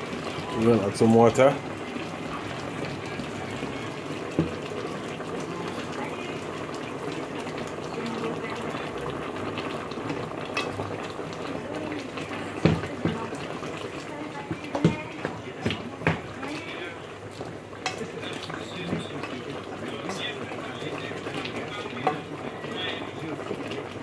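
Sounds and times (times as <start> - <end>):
stew bubbling: 0.0 - 24.0
water pouring into a pot: 0.0 - 24.0.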